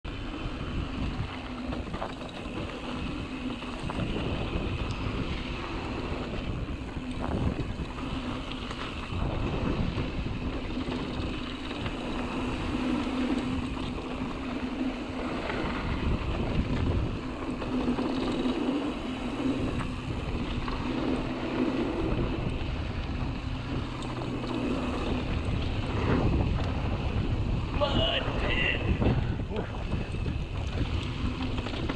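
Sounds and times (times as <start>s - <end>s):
bike tyres rumbling on dirt: 0.1s - 31.9s
wind buffeting microphone: 0.1s - 31.9s.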